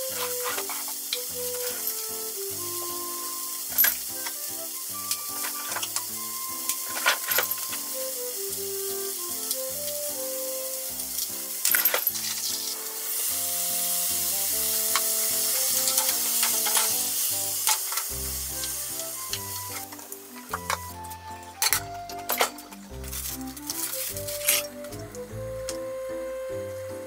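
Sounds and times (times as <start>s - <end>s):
light background music: 0.0s - 27.0s
patties sizzling in a frying pan: 0.0s - 27.0s.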